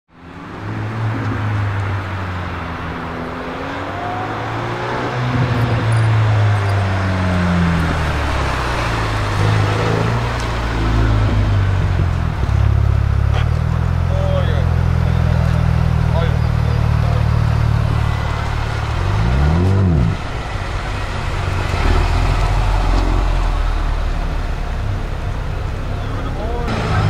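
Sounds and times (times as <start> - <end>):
car engine at low revs: 0.4 - 27.0.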